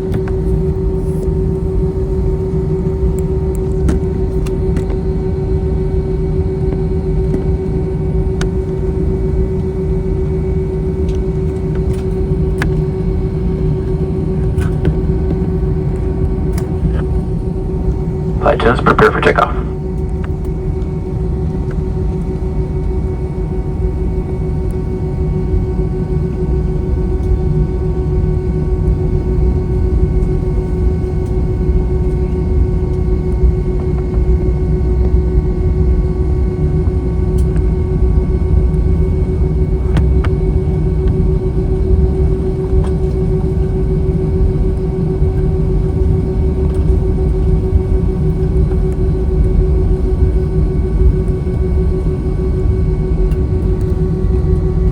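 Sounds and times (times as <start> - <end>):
jet engines rumbling in cabin: 0.0 - 54.9.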